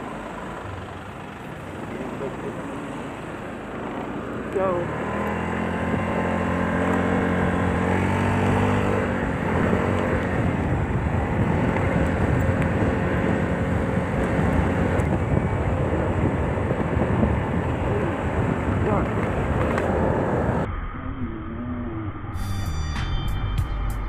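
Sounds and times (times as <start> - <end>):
scooter engine running: 0.0 - 20.7
wind and road noise: 0.0 - 20.7.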